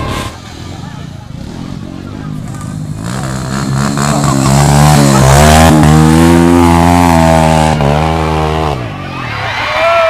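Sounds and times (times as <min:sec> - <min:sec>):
motorcycle engine revving hard: 0:00.0 - 0:09.0.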